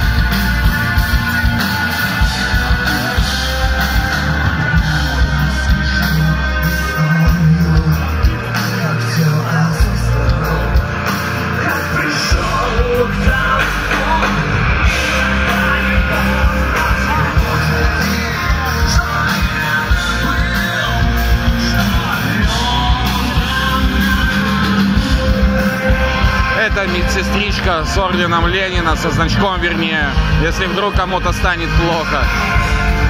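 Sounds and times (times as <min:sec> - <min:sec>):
loud rock music with singer: 0:00.0 - 0:33.0.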